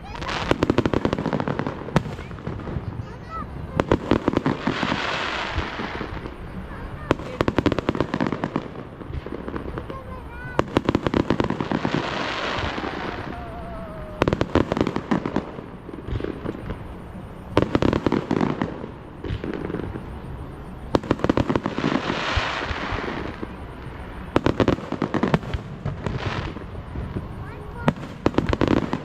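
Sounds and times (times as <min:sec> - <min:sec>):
fireworks crackling pops: 0:00.0 - 0:29.0
fireworks sparkle hiss: 0:00.0 - 0:29.0.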